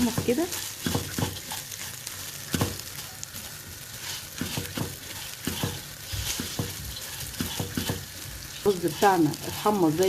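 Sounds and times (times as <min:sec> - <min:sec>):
rice sizzling in hot fat: 0:00.0 - 0:10.0.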